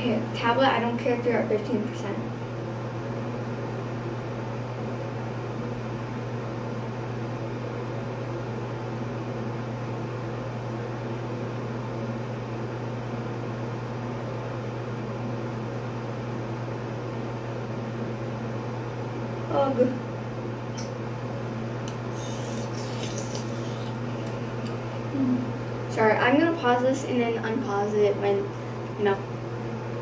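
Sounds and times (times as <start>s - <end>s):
exhaust fan humming: 0.0s - 30.0s.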